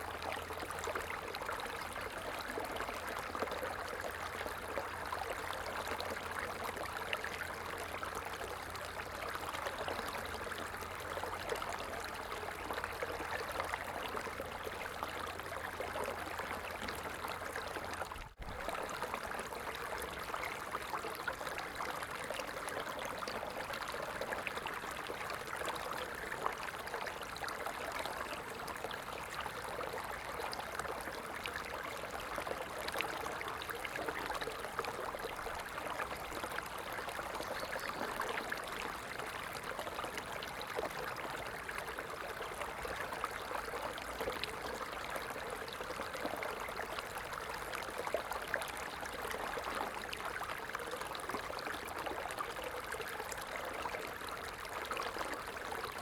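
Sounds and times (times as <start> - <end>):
stream of water trickling: 0.0 - 56.0.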